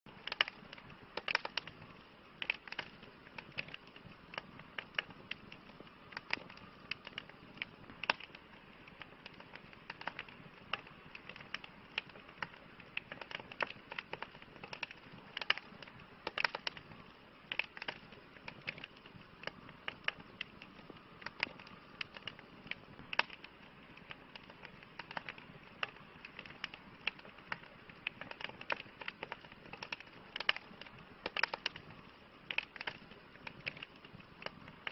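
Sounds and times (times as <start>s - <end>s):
campfire crackling: 0.1s - 34.9s.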